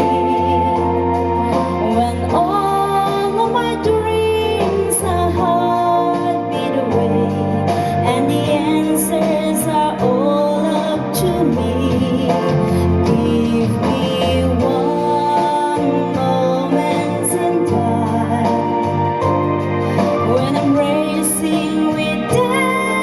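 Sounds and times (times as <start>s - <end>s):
steady bass line: 0.0s - 23.0s
sustained backing chords: 0.0s - 23.0s
woman singing a slow ballad: 0.0s - 23.0s.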